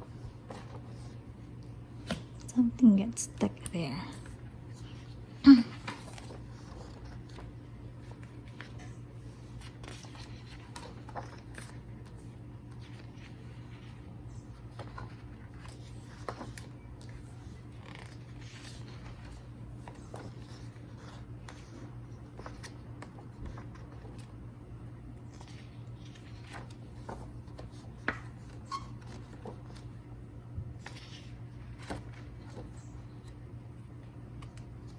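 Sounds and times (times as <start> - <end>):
book pages rustling: 0.0 - 2.4, 4.1 - 24.5, 25.1 - 30.1, 30.7 - 34.9
steady low hum: 0.0 - 34.9.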